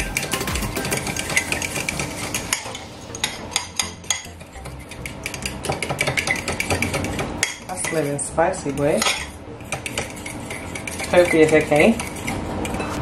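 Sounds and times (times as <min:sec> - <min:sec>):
utensil stirring in ceramic bowl: 0:00.0 - 0:02.6, 0:03.6 - 0:13.0.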